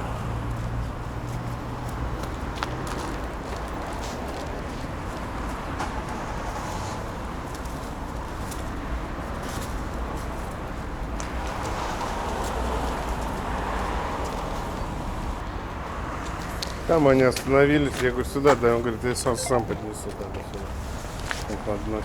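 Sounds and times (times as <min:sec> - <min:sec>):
low street rumble: 0:00.0 - 0:22.0.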